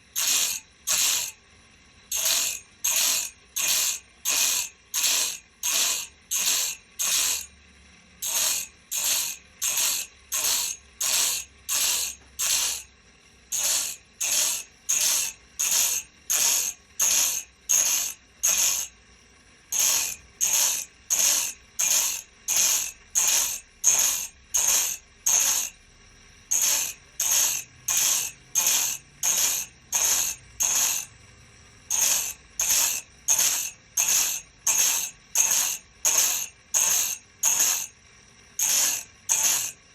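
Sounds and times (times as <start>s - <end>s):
machine strokes on saw blade: 0.2s - 1.4s, 2.1s - 7.5s, 8.2s - 12.9s, 13.5s - 19.0s, 19.7s - 25.8s, 26.5s - 31.1s, 31.9s - 38.0s, 38.6s - 39.9s.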